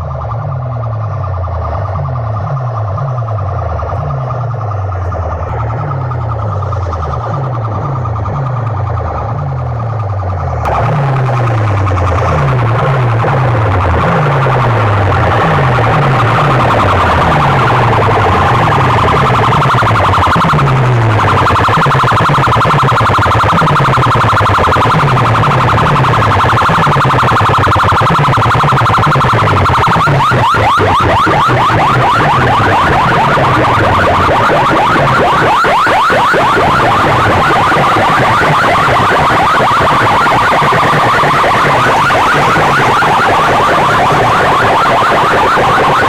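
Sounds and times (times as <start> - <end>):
electronic siren effect: 0.0 - 46.0
falling bass sweeps: 0.0 - 46.0
fast warble of pitch glides: 1.5 - 46.0.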